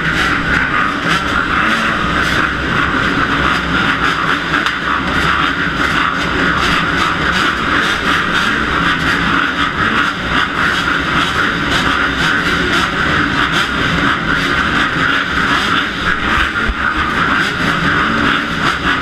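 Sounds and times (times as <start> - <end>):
dirt bike engines running: 0.0 - 19.0.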